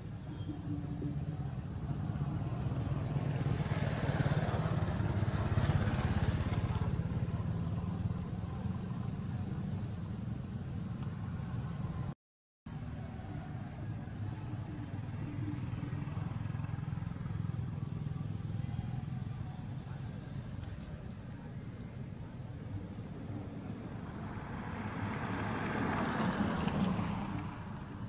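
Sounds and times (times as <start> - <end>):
low road rumble: 0.0 - 28.0
vehicle passing: 1.0 - 12.0, 12.7 - 28.0.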